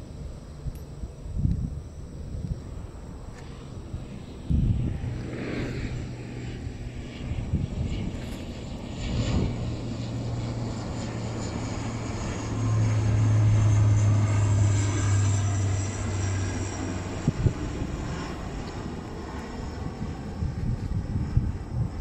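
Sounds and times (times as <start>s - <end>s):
airliner engine drone: 0.0s - 22.0s
high whine falling in pitch: 0.0s - 22.0s.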